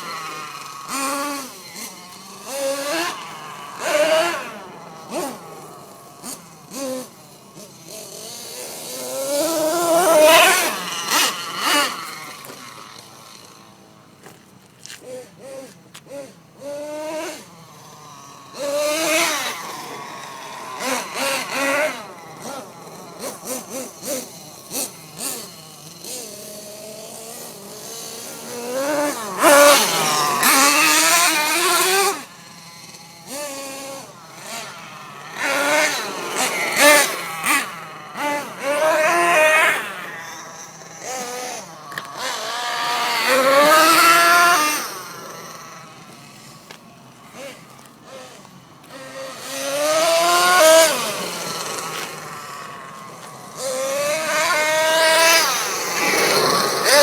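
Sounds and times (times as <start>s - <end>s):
rc truck engine revving: 0.0s - 57.0s.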